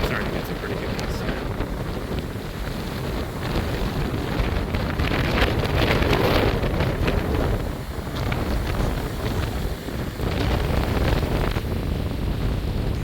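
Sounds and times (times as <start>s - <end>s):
wind gusts buffeting microphone: 0.0s - 13.0s.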